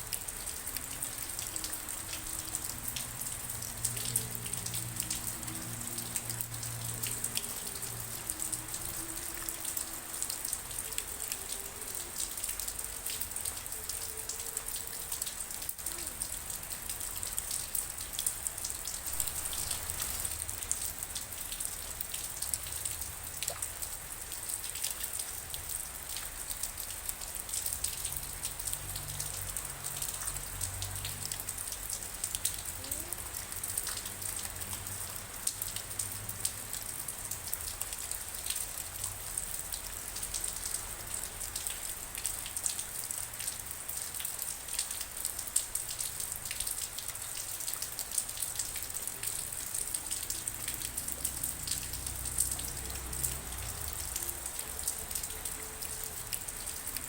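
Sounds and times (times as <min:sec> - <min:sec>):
rain pattering and dripping: 0:00.0 - 0:57.0.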